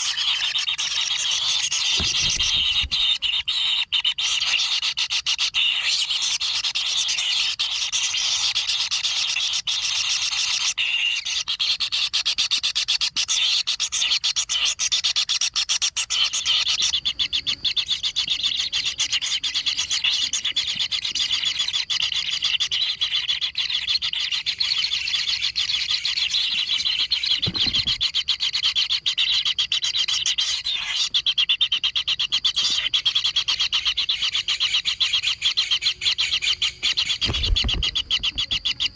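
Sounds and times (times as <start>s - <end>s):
nestlings rasping begging calls: 0.0s - 38.9s.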